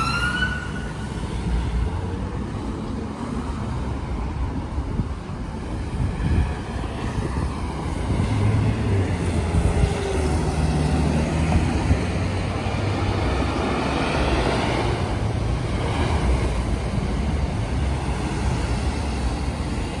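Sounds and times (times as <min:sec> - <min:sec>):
fire engine diesel engine: 0:00.0 - 0:20.0
town traffic rumble: 0:00.0 - 0:20.0.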